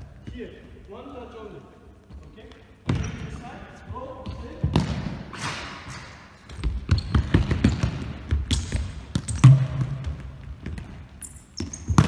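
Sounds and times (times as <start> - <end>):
ball kicks echoing in hall: 0.0 - 12.0.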